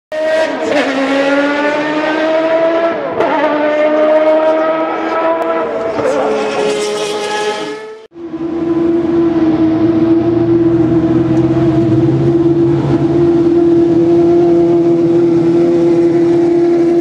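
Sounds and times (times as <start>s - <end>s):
racing car engine at high revs: 0.1s - 17.0s.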